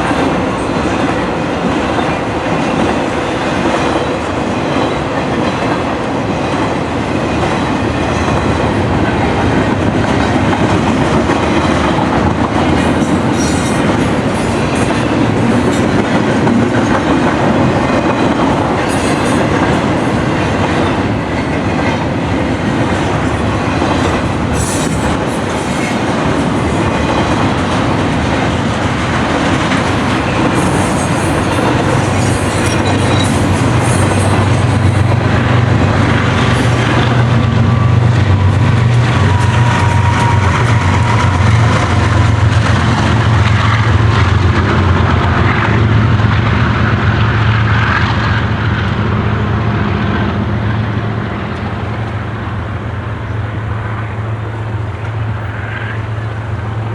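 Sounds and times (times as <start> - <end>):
wheels clacking over rail joints: 0.0 - 49.0
railroad cars rolling past: 0.0 - 56.9.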